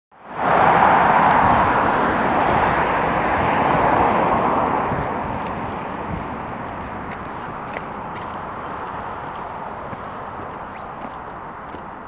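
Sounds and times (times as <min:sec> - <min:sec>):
road traffic passing: 0:00.1 - 0:12.0.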